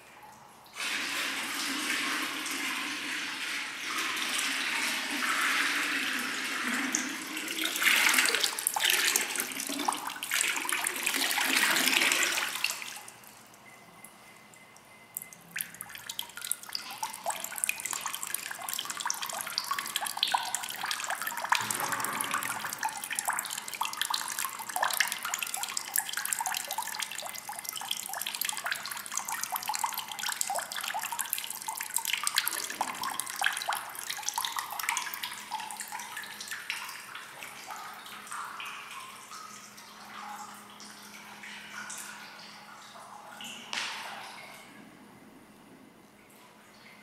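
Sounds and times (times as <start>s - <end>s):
water splashing into a basin: 0.7s - 13.3s, 15.1s - 44.7s.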